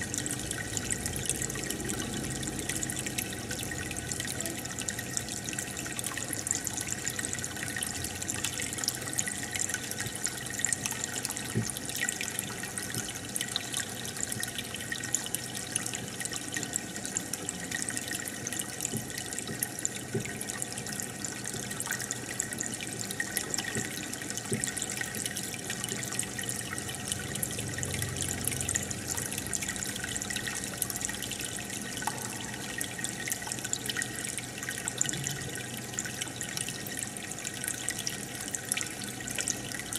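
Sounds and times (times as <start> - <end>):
aquarium water trickling and bubbling: 0.0 - 39.9
faint steady hum: 0.0 - 39.9.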